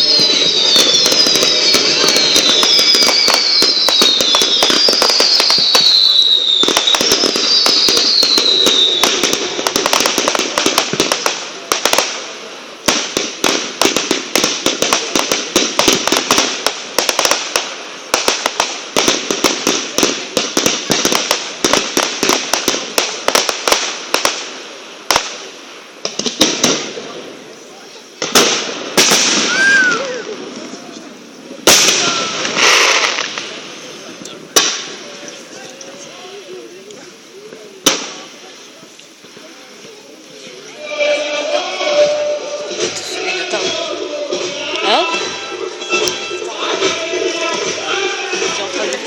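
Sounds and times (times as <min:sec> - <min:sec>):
crackling firework pops and bangs: 0:00.0 - 0:49.0
falling firework whistles: 0:00.0 - 0:49.0
firework bursts: 0:00.0 - 0:49.0.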